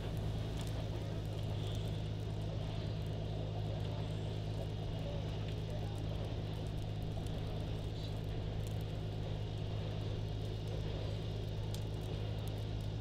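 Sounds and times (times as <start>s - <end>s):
engine idling drone: 0.0s - 13.0s.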